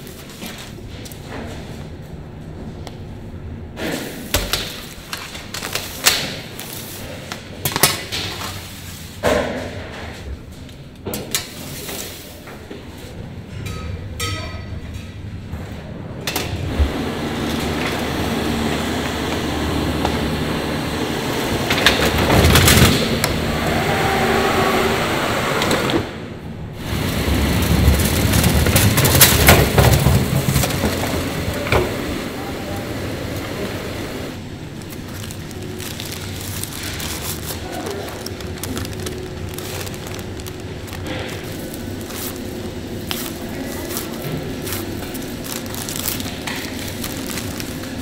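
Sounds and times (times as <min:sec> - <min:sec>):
machinery noise with low hum: 0:00.0 - 0:48.0.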